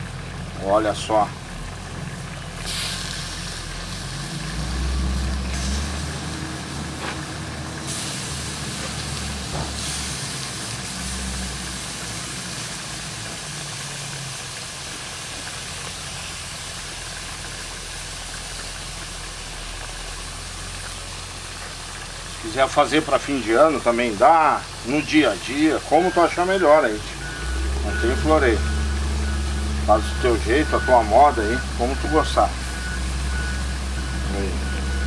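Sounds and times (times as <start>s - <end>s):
meat simmering hiss: 0.0s - 35.0s.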